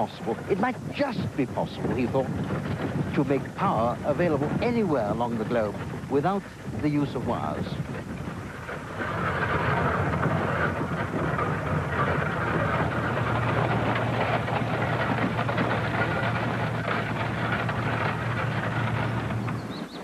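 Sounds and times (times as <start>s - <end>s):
horse hooves clopping: 0.0s - 20.0s
wagon wheels rattling: 0.0s - 20.0s.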